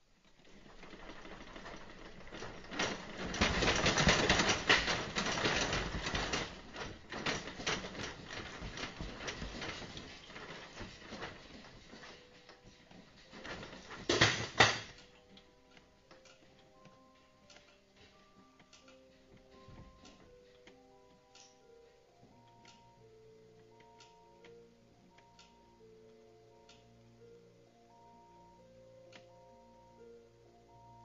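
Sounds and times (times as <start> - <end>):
shelving and objects rattling: 0.0 - 25.9.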